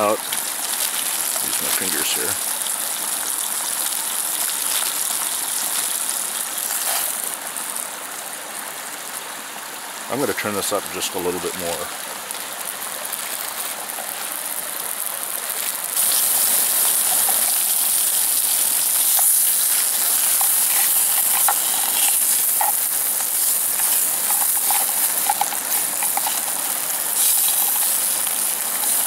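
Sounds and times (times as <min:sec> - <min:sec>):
sausages sizzling in a frying pan: 0:00.0 - 0:29.0
stove burner hissing: 0:00.0 - 0:29.0.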